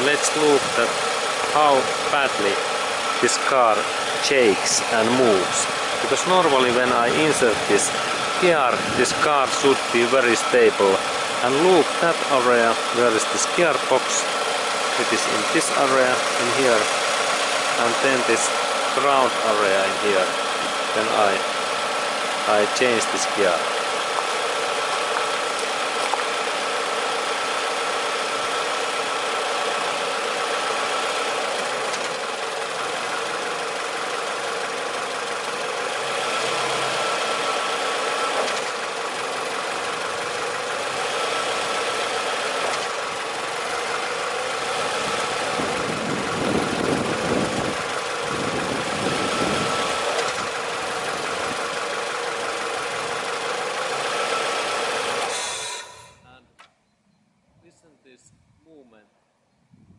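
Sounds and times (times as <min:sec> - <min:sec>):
car engine idling: 0:00.0 - 0:56.7
rough engine rumble: 0:00.0 - 0:56.8.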